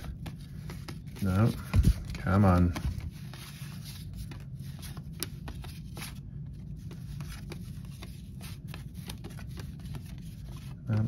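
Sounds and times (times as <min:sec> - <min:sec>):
cardboard cards sliding and rustling: 0:00.0 - 0:11.0.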